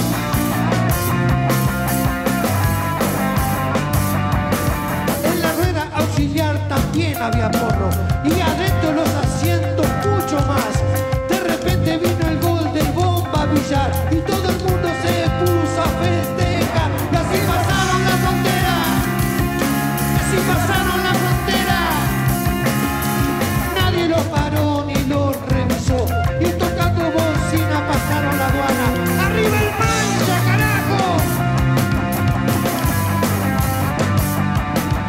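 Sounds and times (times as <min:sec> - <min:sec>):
rock band playing: 0:00.0 - 0:35.0.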